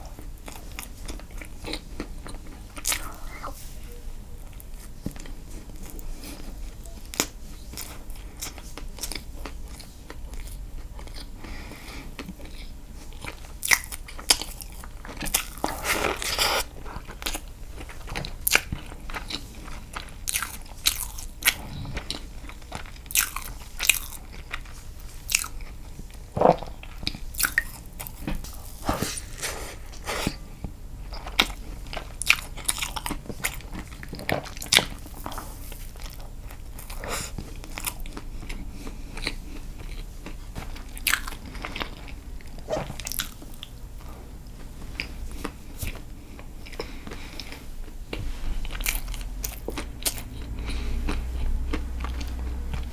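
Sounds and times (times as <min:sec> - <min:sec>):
biting and chewing cake: 0:00.0 - 0:30.4, 0:31.0 - 0:52.9.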